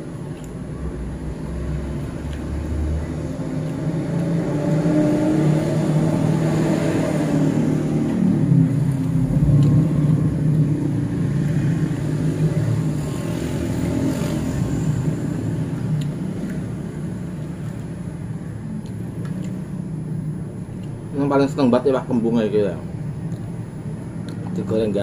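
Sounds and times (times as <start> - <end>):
passing vehicle engines: 0.0 - 25.0.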